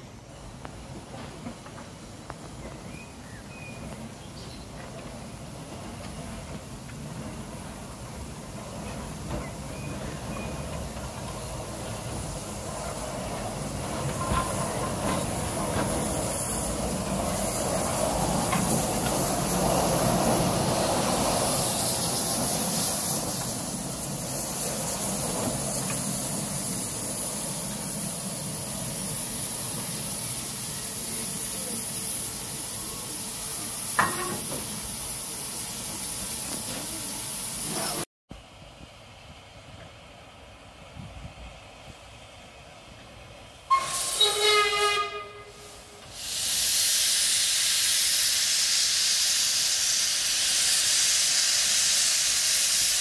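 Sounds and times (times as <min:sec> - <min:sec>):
steam locomotive hissing: 0:00.0 - 0:38.1, 0:39.2 - 0:53.0.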